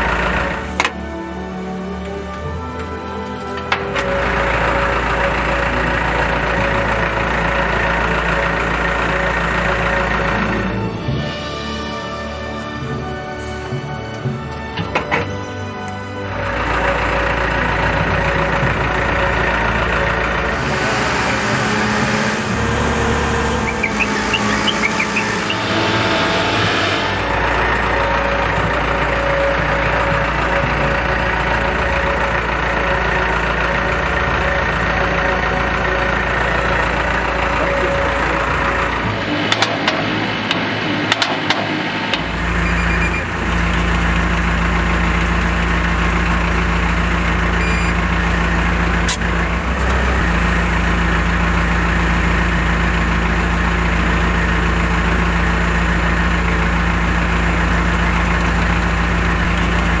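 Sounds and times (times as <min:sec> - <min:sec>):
engine idling: 0:00.0 - 1:00.0.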